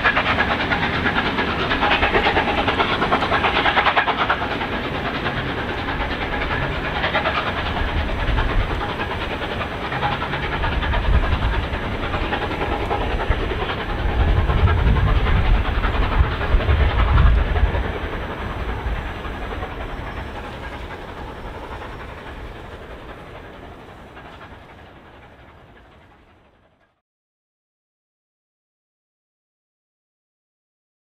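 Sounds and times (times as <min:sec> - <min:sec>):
train coaches rumbling on rails: 0:00.0 - 0:27.0.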